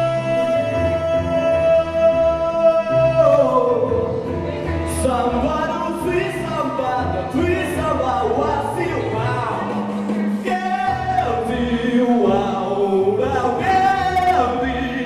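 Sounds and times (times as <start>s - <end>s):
man singing: 0.0s - 15.0s
pulsing bass accompaniment: 0.0s - 15.0s.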